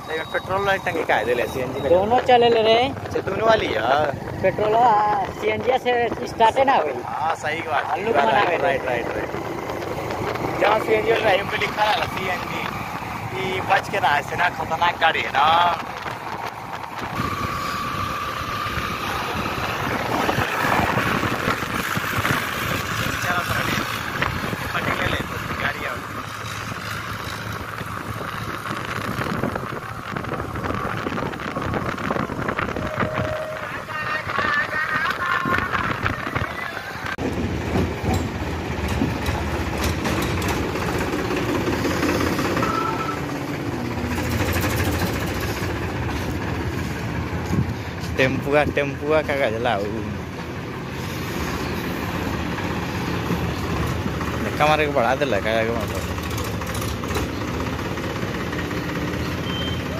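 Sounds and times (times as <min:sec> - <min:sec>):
road and wind noise: 0:00.0 - 0:59.9
tractor diesel engine running: 0:00.0 - 0:59.9.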